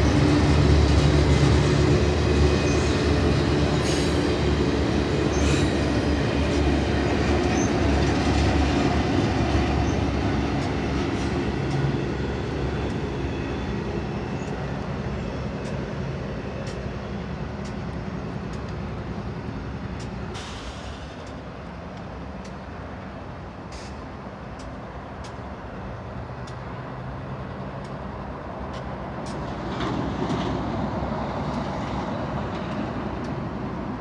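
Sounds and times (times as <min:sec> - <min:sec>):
freight train rumbling past: 0:00.0 - 0:34.0
train sharp clicks: 0:00.1 - 0:34.0.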